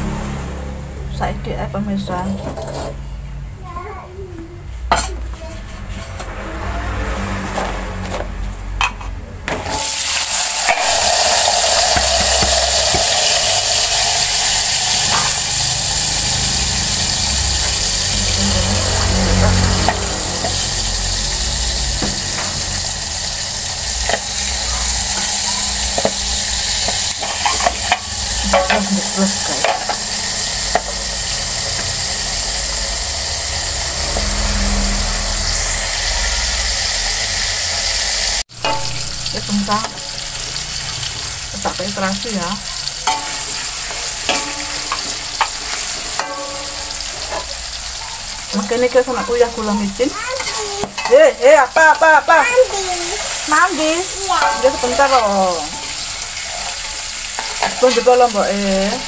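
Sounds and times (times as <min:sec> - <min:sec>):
vegetables sizzling in hot oil: 0:09.5 - 0:59.0.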